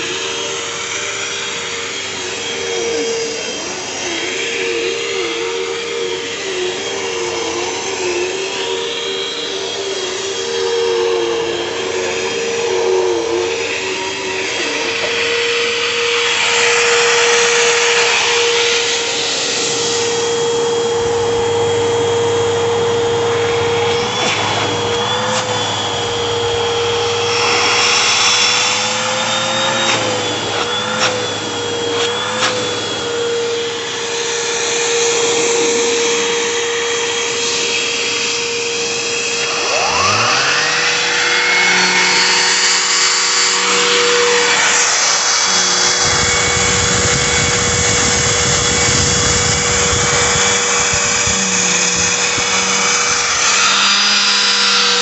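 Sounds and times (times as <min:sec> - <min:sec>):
suction rushing over fabric: 0:00.0 - 0:55.0
vacuum cleaner motor whine: 0:00.0 - 0:55.0
vacuum motor spinning up: 0:00.0 - 0:55.0.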